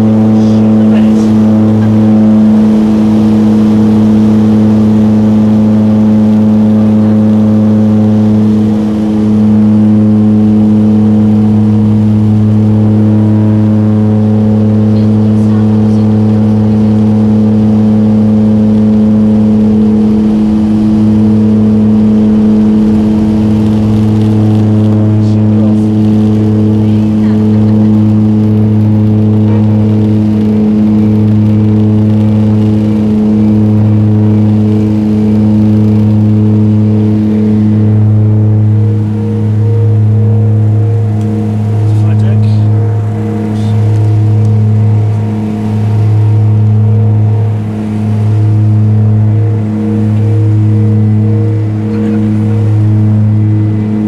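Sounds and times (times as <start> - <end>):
propeller engine drone: 0.0 - 54.0.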